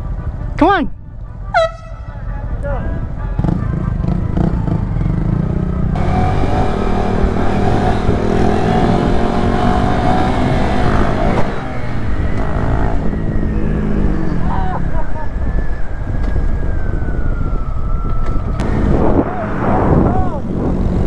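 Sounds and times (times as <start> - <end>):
motorcycle engine accelerating: 1.8 - 21.0.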